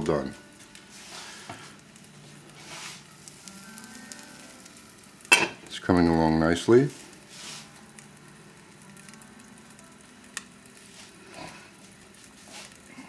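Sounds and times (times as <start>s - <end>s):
omelette sizzling in frying pan: 0.0s - 13.0s.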